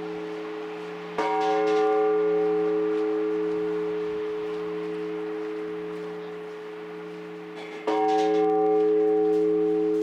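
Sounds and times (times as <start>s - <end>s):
church bell ringing: 0.0s - 10.0s.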